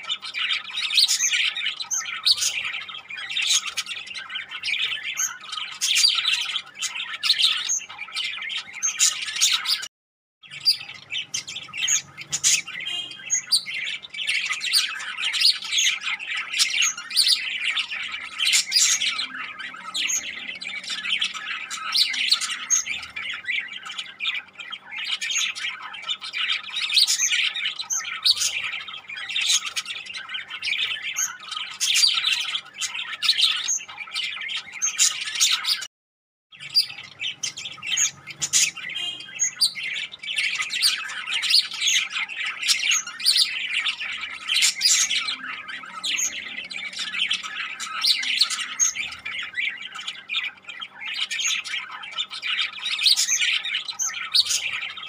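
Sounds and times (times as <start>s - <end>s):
budgerigars chattering: 0.0s - 9.9s, 10.5s - 35.9s, 36.6s - 55.0s.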